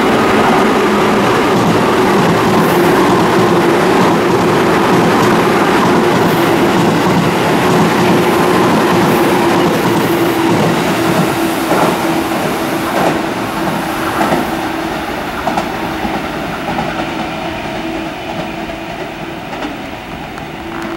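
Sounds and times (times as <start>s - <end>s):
train wheels clacking on rail joints: 0.0s - 20.9s.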